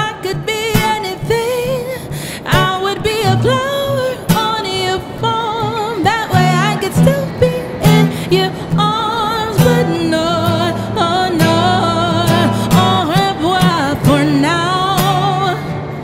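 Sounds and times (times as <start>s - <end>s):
strummed acoustic guitar: 0.0s - 16.0s
woman singing a slow ballad: 0.0s - 16.0s.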